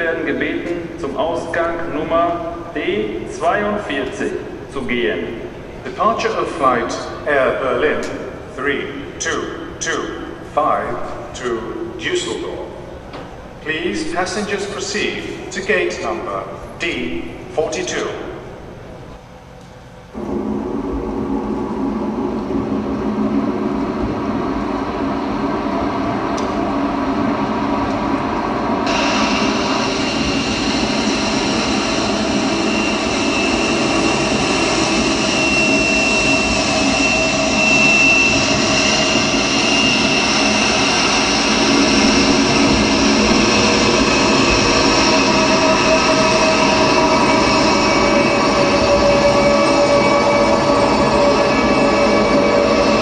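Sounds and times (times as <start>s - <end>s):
dense mechanical drone: 0.0s - 53.0s
high held whine: 0.0s - 53.0s.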